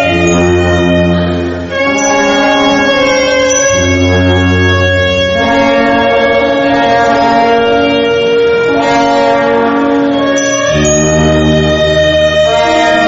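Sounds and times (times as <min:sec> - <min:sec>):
brass band playing funeral march: 0:00.0 - 0:13.0.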